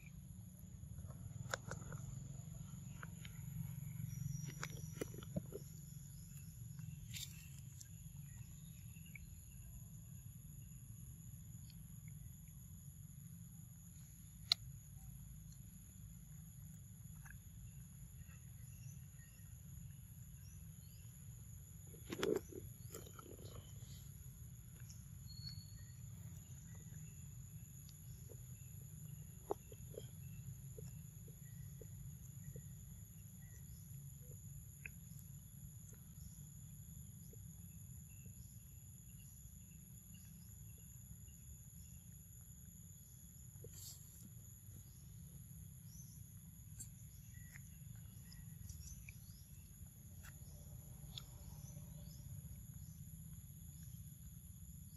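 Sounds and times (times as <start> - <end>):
low steady rumble: 0.0 - 54.9.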